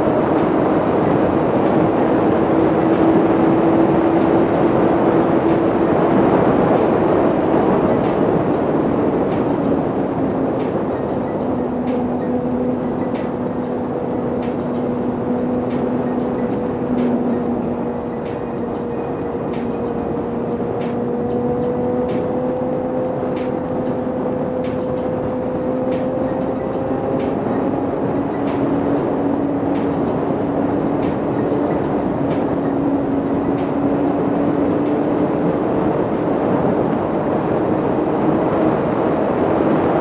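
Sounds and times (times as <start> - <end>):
motorcycle engine cruising: 0.0 - 40.0
wind and road noise: 0.0 - 40.0.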